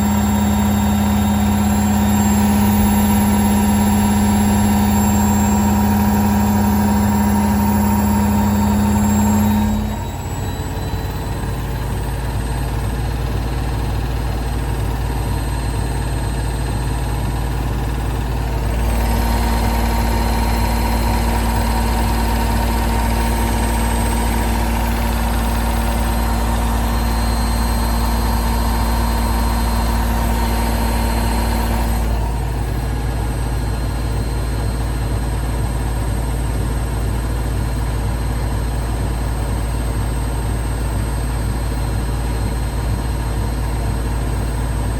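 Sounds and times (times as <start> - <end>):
washing machine humming: 0.0 - 44.9
washing machine whine: 0.0 - 44.9.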